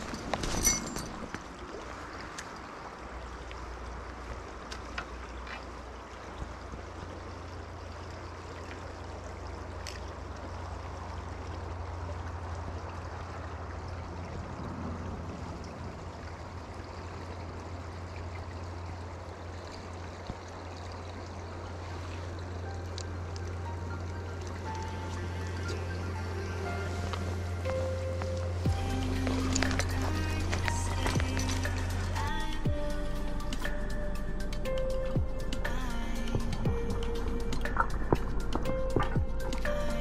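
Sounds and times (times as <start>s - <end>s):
river flowing over riffles: 0.0s - 40.0s.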